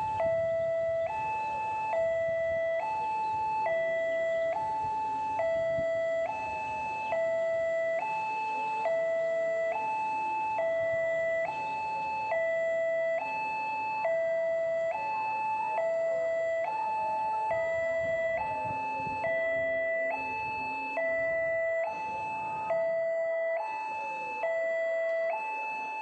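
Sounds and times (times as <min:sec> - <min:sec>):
level crossing two-tone alarm: 0:00.0 - 0:26.0.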